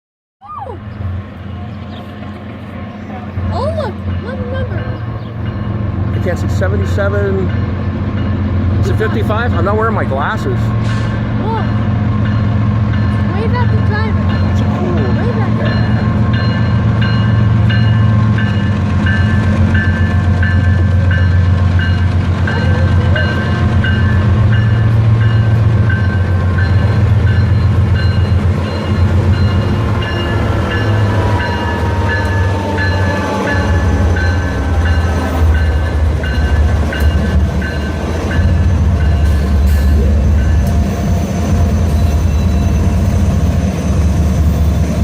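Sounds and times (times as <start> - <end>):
diesel locomotive rumbling: 0.4 - 45.0
train bell ringing: 3.3 - 45.0.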